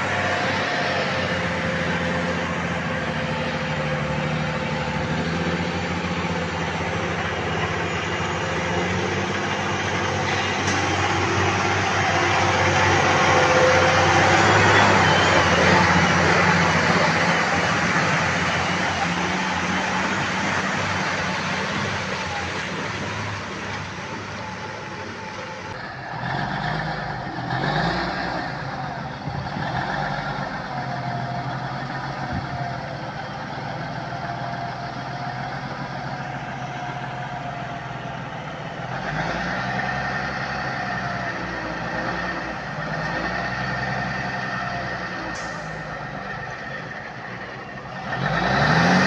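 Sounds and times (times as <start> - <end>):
heavy truck engine under load: 0.0 - 49.0.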